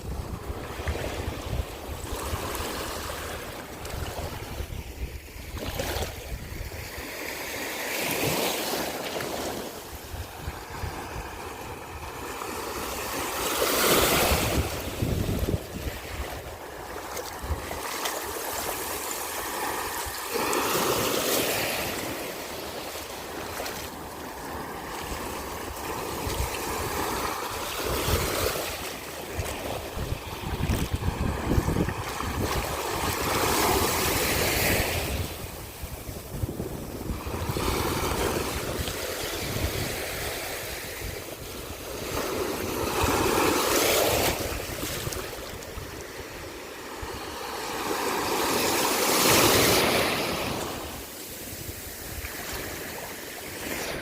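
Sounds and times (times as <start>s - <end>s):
wind rumbling on microphone: 0.0s - 7.2s, 9.8s - 54.0s
ocean surf breaking on beach: 0.0s - 54.0s.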